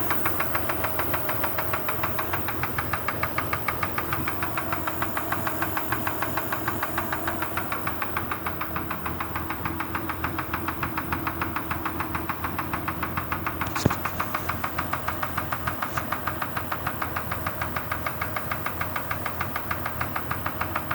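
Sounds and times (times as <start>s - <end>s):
engine running with rapid knock: 0.0s - 20.9s.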